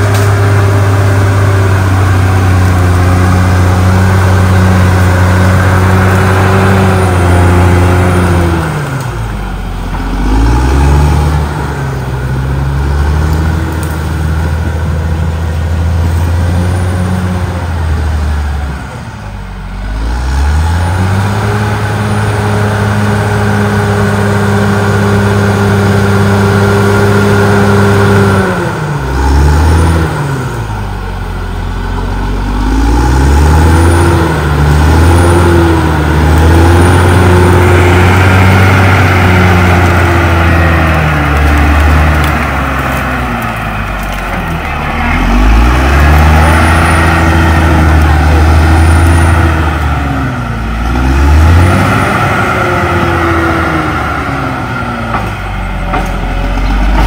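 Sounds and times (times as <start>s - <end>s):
bulldozer diesel engine running hard: 0.0s - 57.0s.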